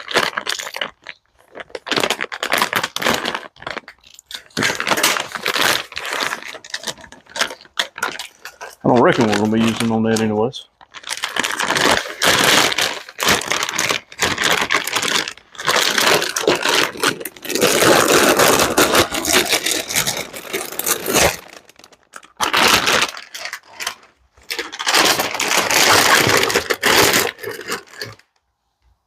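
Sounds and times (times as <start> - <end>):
packaging crinkling and scraping: 0.0 - 28.4.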